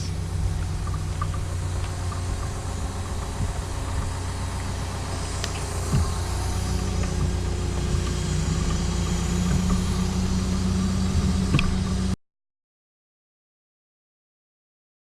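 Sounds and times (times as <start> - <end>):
faint clicks: 0.0 - 12.1
excavator diesel engine running: 0.0 - 12.2.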